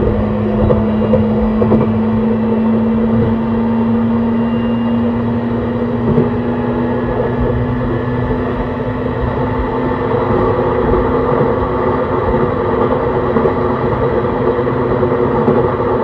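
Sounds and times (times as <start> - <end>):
traction motor hum: 0.0 - 16.0
train wheel and rail rumble: 0.0 - 16.0.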